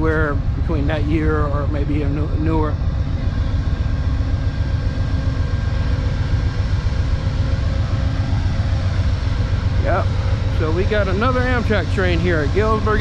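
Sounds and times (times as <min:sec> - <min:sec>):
diesel locomotive engine idling: 0:00.0 - 0:13.0
faint steady tones: 0:00.0 - 0:13.0.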